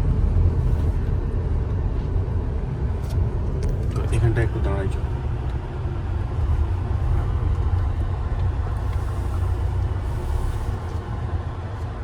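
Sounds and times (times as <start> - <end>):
moving car rumble: 0.0 - 12.0.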